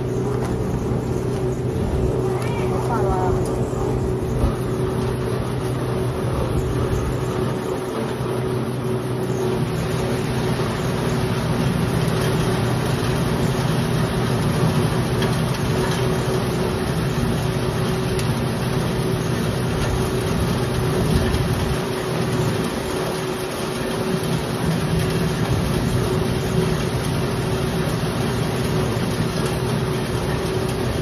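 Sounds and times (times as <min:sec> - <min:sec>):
threshing machine motor hum: 0:00.0 - 0:31.0.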